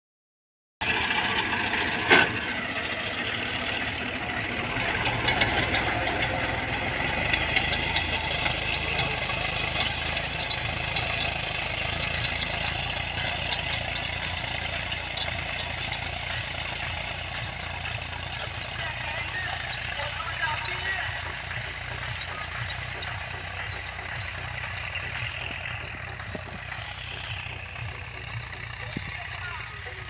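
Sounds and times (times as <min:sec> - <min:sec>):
tractor diesel engine running: 0:00.8 - 0:30.0.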